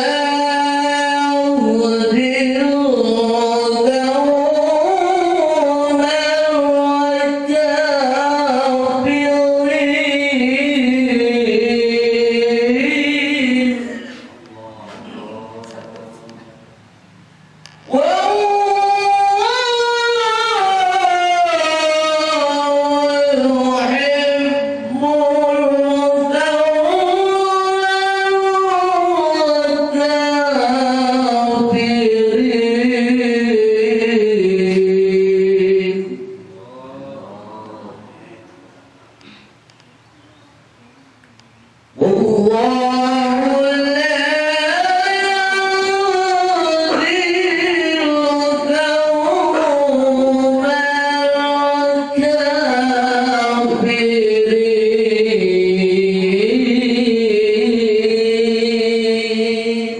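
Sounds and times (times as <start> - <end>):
man singing a devotional chant: 0.0 - 16.6, 17.7 - 38.7, 42.0 - 59.9.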